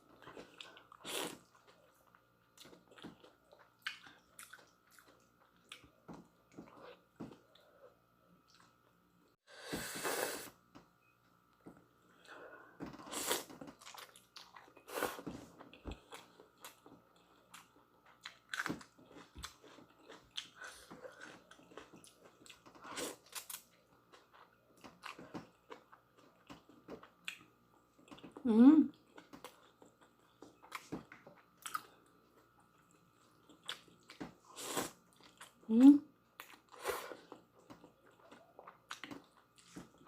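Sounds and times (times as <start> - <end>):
chewing and mouth sounds: 0.2 - 7.7, 13.1 - 35.6, 36.4 - 40.0.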